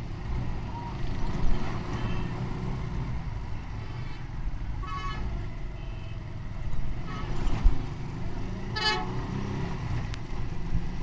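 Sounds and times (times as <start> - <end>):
street traffic engine rumble: 0.0 - 11.0.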